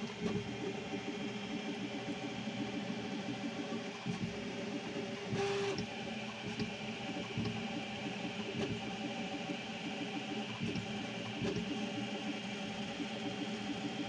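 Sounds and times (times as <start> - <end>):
printer motor whine: 0.0 - 14.0.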